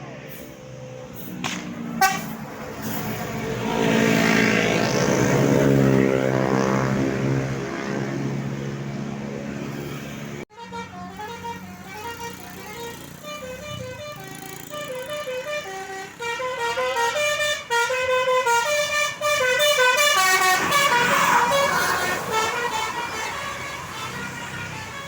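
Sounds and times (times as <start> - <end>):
bus passing close: 0.0 - 25.0
multi-tone bus horn tune: 0.3 - 8.8, 9.6 - 25.0.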